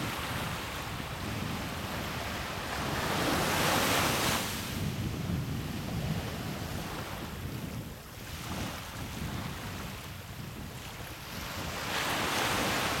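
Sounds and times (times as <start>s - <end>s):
surf on sandy beach: 0.0s - 13.0s
wind buffeting microphone: 0.0s - 13.0s.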